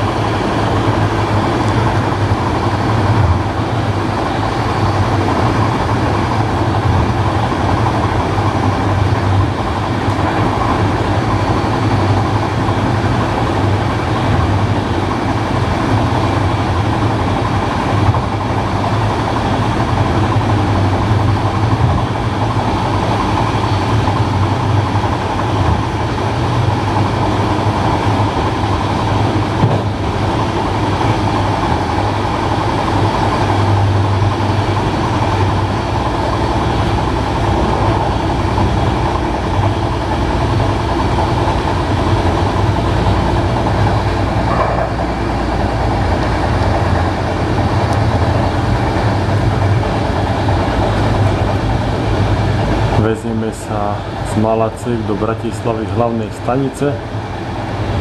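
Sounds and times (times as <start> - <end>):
low hum: 0.0 - 58.0
train wheels rumbling on rails: 0.0 - 58.0.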